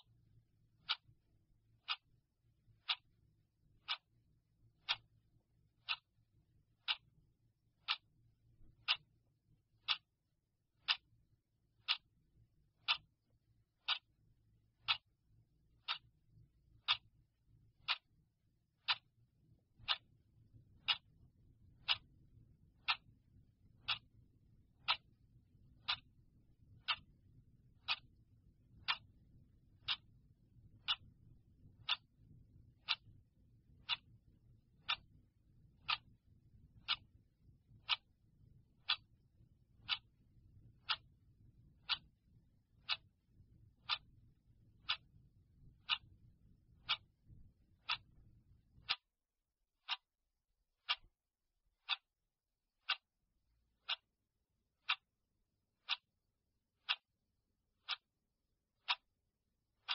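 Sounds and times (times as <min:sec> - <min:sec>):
clock ticking: 0:00.0 - 0:49.2, 0:49.8 - 0:50.2, 0:50.8 - 0:52.2, 0:52.8 - 0:59.9.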